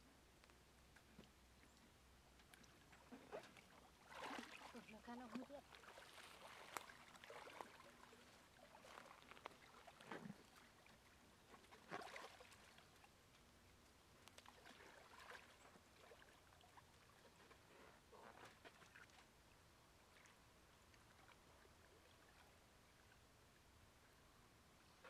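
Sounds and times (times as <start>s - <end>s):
water sloshing and splashing: 2.3s - 13.6s, 14.2s - 23.3s.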